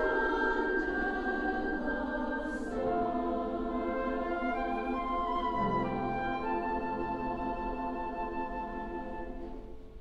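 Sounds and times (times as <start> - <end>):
women's chorus singing: 0.0 - 9.6.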